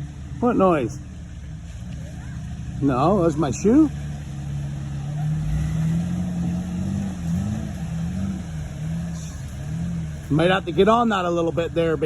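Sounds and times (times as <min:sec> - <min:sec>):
engine revving while driving: 0:00.0 - 0:12.0.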